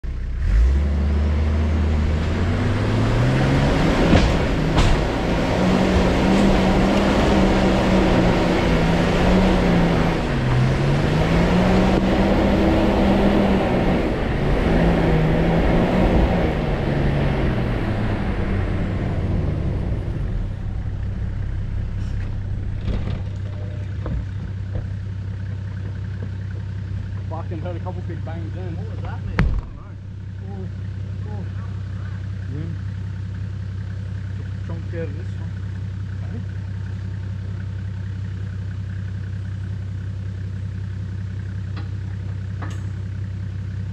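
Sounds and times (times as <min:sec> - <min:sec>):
vehicle engine revving: 0:00.0 - 0:43.9.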